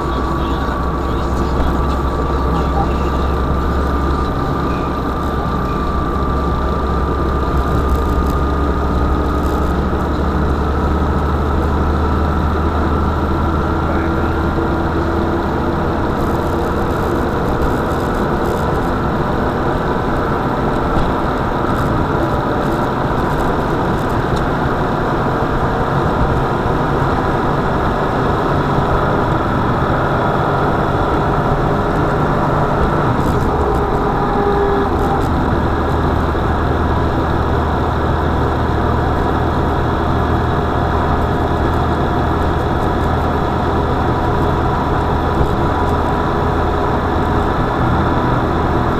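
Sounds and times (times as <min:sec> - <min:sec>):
car engine running: 0:00.0 - 0:48.9.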